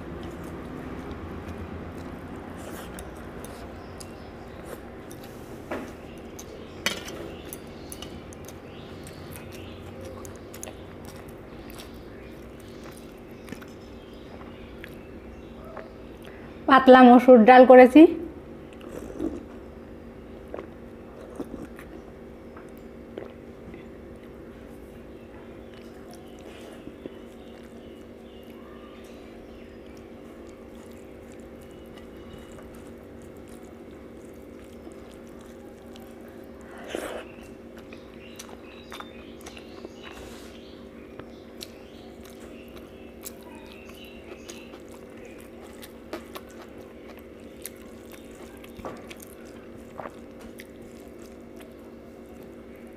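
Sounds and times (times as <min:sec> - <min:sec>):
person chewing: 0:00.1 - 0:15.0, 0:18.7 - 0:19.6, 0:20.4 - 0:22.1, 0:22.7 - 0:24.4, 0:25.6 - 0:52.9.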